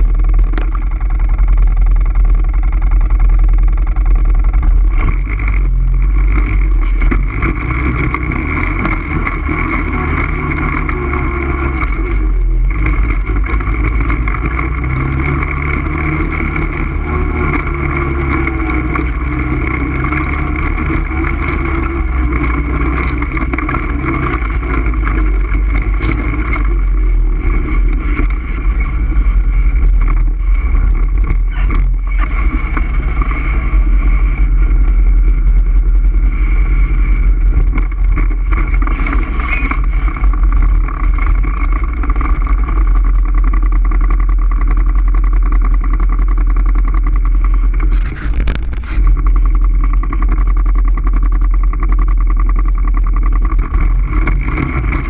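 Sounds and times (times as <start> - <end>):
atv engine running: 0.0 - 55.0
heavy low rumble: 0.0 - 55.0.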